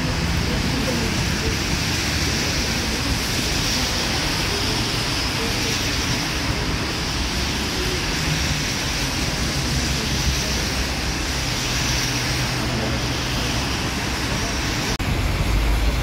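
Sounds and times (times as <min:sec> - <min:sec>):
heavy rain hiss: 0:00.0 - 0:16.0
passing traffic rumble: 0:00.0 - 0:16.0
tyres on wet road: 0:00.0 - 0:16.0.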